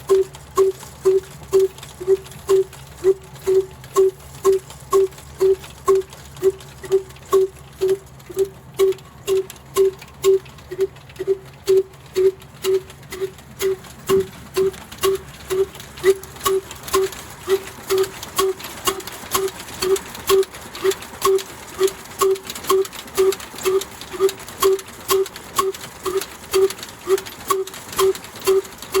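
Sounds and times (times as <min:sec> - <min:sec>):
diesel engine exhaust beating: 0:00.0 - 0:29.0.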